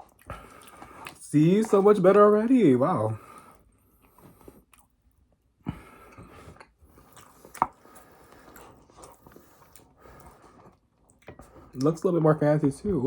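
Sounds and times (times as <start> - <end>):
soft chewing: 0.0 - 2.1, 3.1 - 12.3.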